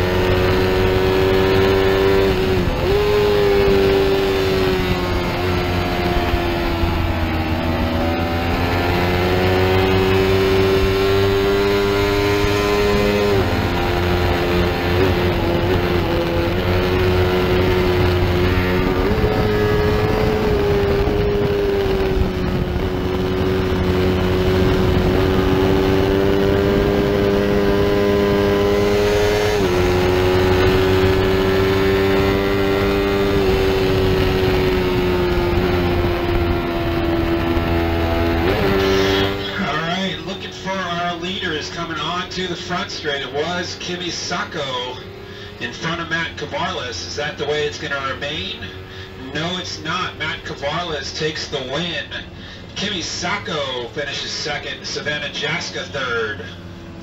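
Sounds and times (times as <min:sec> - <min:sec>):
sport bike engine revving high: 0:00.0 - 0:57.0.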